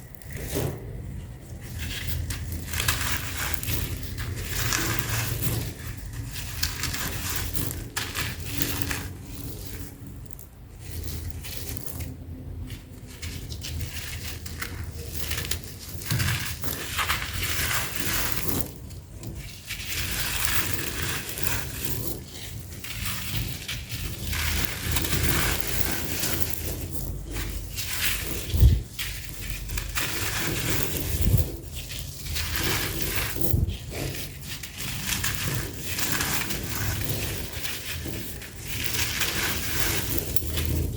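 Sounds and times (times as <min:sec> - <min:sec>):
sand-cement chunks crushing: 0:00.0 - 0:40.9.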